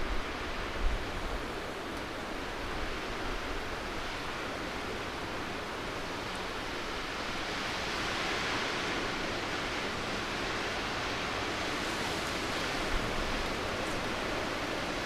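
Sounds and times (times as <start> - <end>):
snowstorm rushing noise: 0.0 - 15.0.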